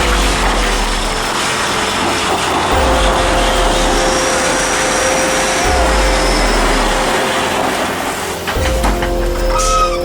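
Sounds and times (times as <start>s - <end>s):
constant whine: 0.0s - 10.0s
heavy vehicle engine drone: 0.0s - 10.0s
road noise: 0.0s - 10.0s.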